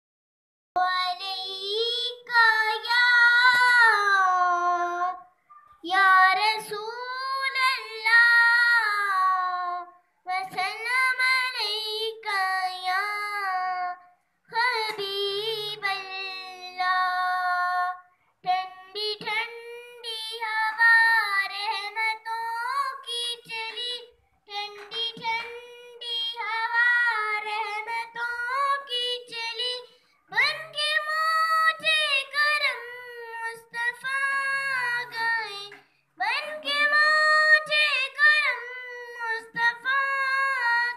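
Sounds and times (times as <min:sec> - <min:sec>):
girl singing unaccompanied: 0:00.8 - 0:40.9.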